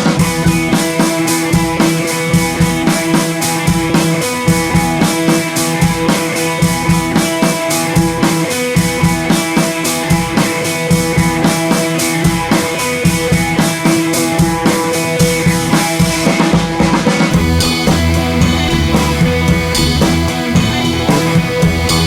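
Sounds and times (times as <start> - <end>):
rock music with drums and guitar: 0.0 - 22.0.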